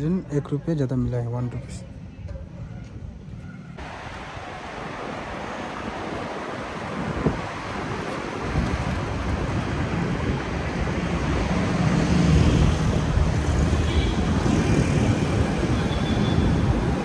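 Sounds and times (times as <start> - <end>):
road and traffic noise: 0.0 - 17.0
wind buffeting microphone: 2.0 - 17.0.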